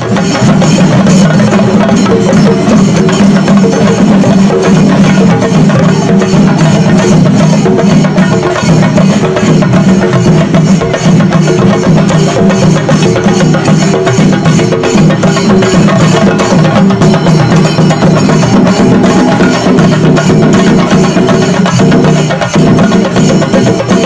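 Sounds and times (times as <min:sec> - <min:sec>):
cymbals clashing: 0:00.0 - 0:24.0
drums beaten fast with sticks: 0:00.0 - 0:24.0.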